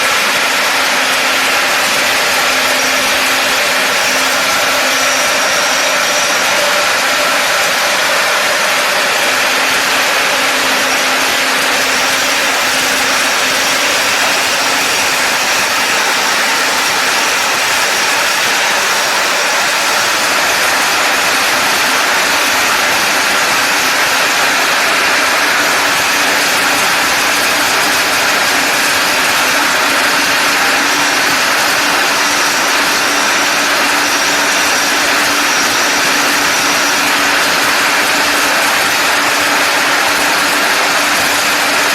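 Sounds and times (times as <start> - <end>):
machine running: 0.0 - 41.9.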